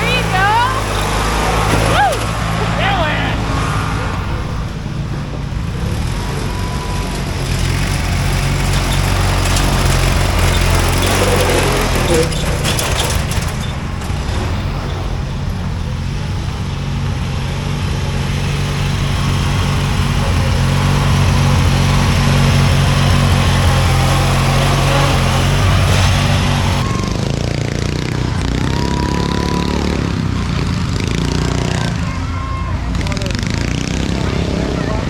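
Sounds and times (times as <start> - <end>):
lawn mower engine running hard: 0.0 - 35.0.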